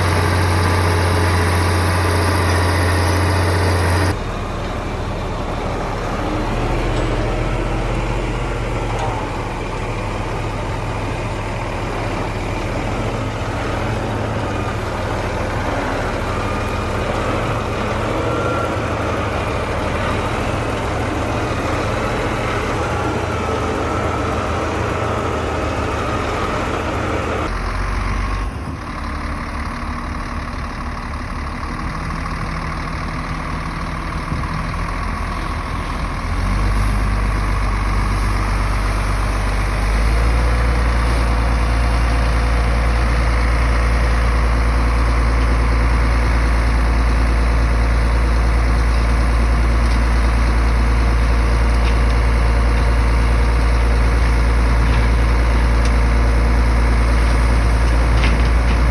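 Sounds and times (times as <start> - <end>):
earthmoving machine diesel engine: 0.0 - 58.9.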